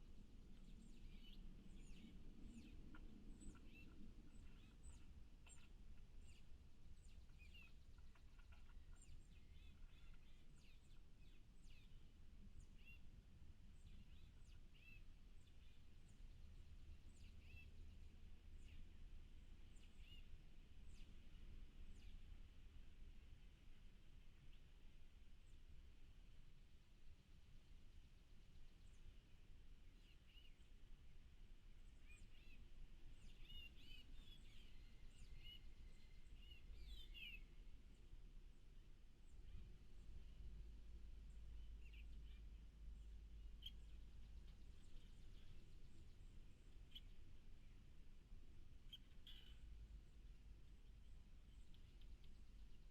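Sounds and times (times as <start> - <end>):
low steady rumble: 0.0 - 52.9
small birds chirping: 0.0 - 52.9.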